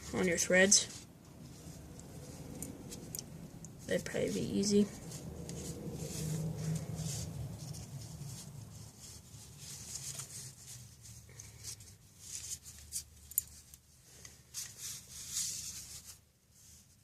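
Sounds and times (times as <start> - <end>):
hands scraping bicycle parts: 0.0 - 16.2
low steady hum: 0.0 - 17.0.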